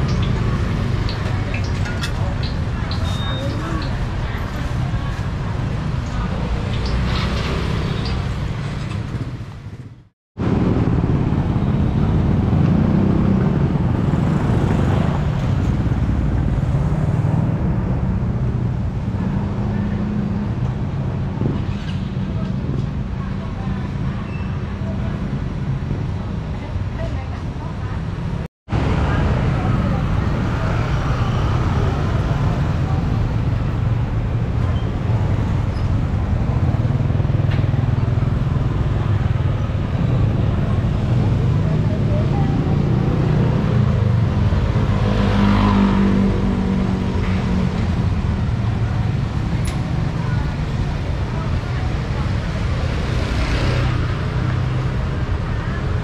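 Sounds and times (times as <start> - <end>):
street traffic: 0.0 - 56.0.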